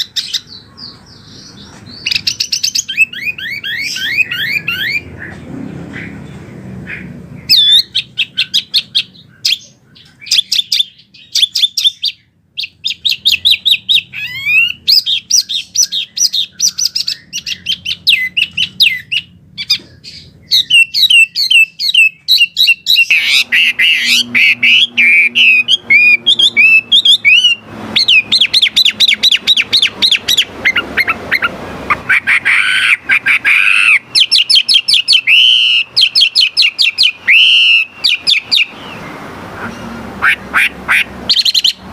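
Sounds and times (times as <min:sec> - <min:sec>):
bird chirping and squawking: 0:00.0 - 0:41.9.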